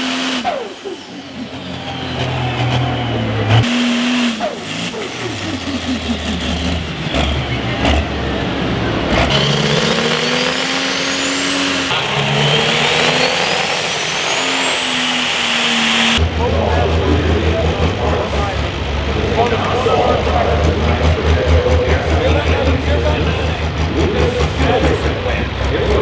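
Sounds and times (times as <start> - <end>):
diesel engine running hard: 0.0 - 26.0
high turbo whine: 0.0 - 26.0.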